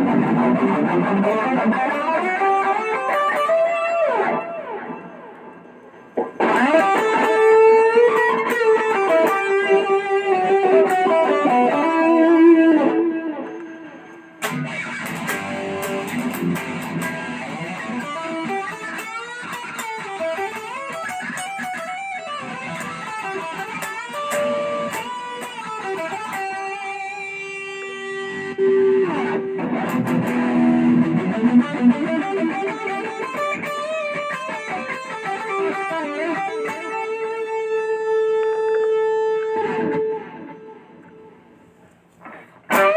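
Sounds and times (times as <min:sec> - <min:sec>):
overdriven electric guitar notes: 0:00.0 - 0:42.9.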